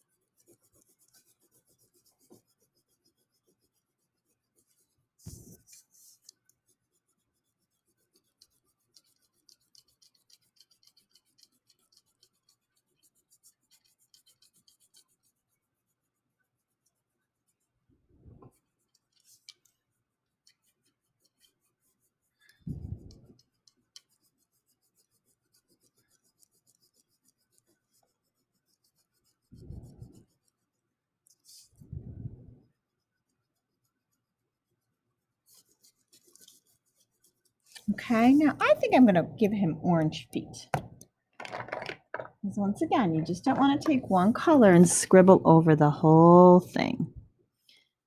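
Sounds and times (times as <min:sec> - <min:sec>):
crayon scratching on paper: 0:00.0 - 0:17.8, 0:18.5 - 0:31.8, 0:34.8 - 0:41.0, 0:42.4 - 0:45.8.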